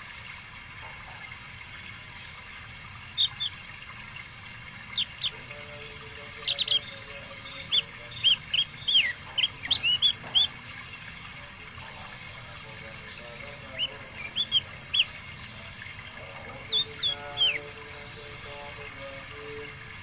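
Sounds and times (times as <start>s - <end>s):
songbird chirping: 2.2s - 20.0s.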